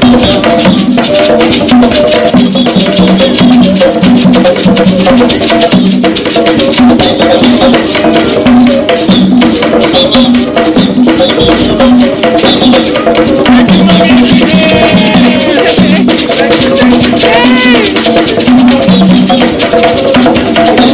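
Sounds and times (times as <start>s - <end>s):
hand drums: 0.0s - 20.9s
shaker rattle: 0.0s - 20.9s.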